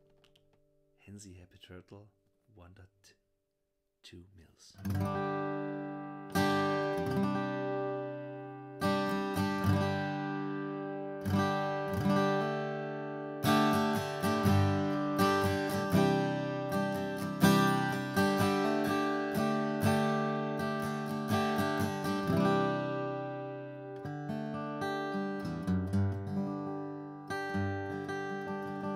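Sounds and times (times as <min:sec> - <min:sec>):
acoustic guitar strumming: 0:04.8 - 0:28.9.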